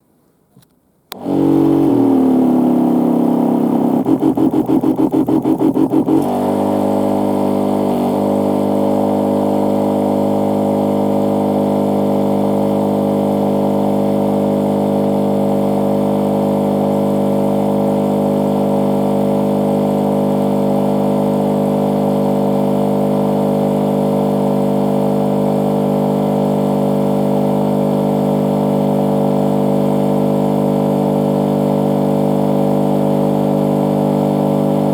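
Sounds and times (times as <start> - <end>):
electric sprayer pump running: 1.1 - 34.9.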